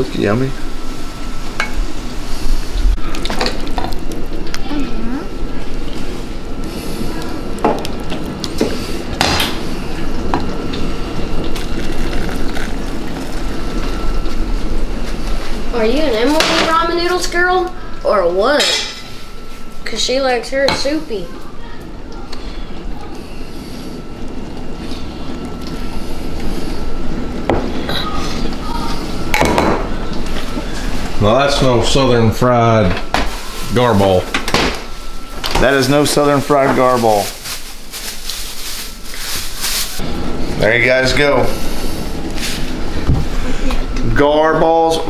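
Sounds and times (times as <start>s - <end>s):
rumbling kitchen noise: 0.0s - 45.0s.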